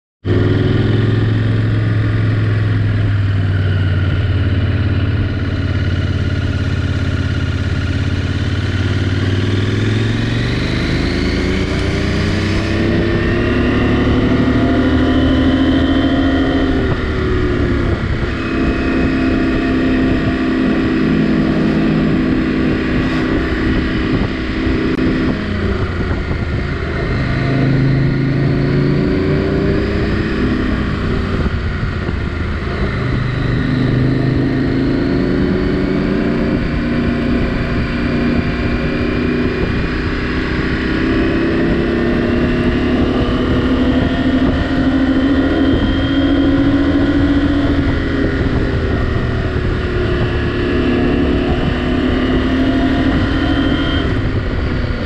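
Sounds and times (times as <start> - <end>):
motorcycle engine revving: 0.2 - 55.0.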